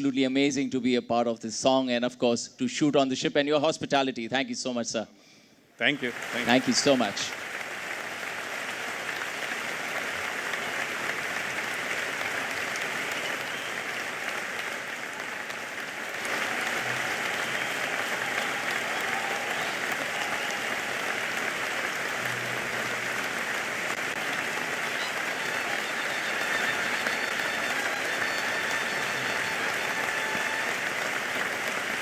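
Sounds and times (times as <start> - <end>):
audience applauding: 5.8 - 32.0.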